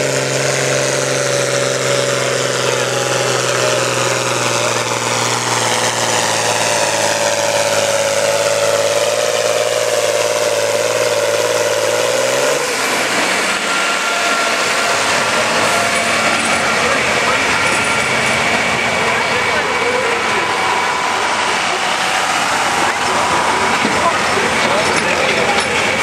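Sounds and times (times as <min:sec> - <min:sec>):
engines idling: 0:00.0 - 0:26.0
tractor engine running under load: 0:00.0 - 0:26.0.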